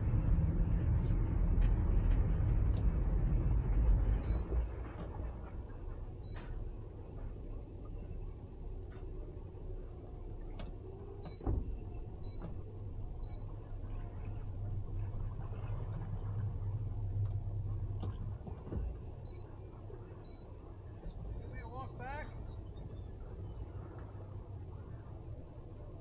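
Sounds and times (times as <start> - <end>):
outboard motor rumbling: 0.0 - 26.0.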